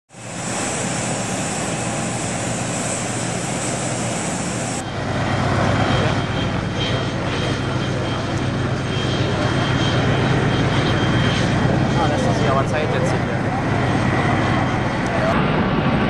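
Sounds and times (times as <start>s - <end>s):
jet engines rushing: 0.1s - 16.0s.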